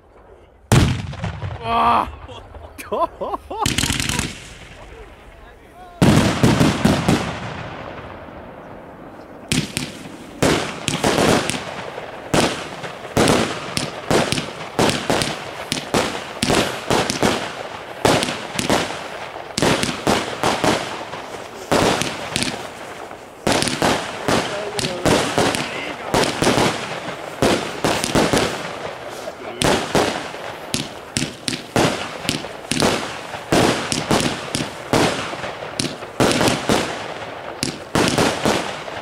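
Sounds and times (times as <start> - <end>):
fireworks exploding: 0.0 - 39.0.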